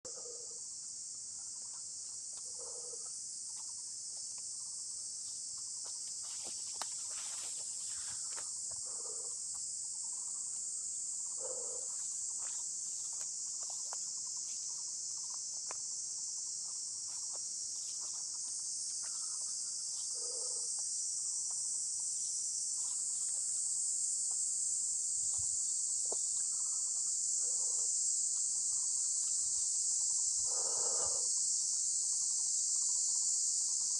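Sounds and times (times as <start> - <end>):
insects high-pitched hiss: 0.1 - 33.9.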